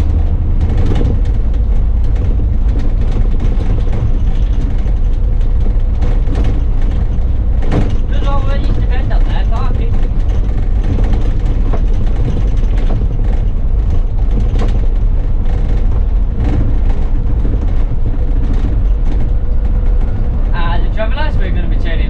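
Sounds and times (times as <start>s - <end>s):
bus body rattling: 0.0s - 22.0s
bus engine and road rumble: 0.0s - 22.0s.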